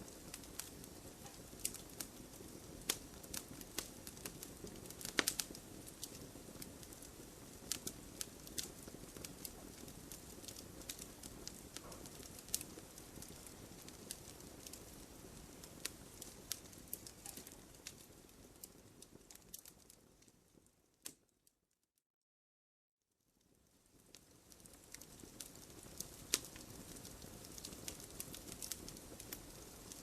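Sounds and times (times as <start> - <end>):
low rush of flames: 0.0 - 20.3, 24.0 - 30.0
campfire crackling: 0.0 - 21.2, 23.4 - 30.0.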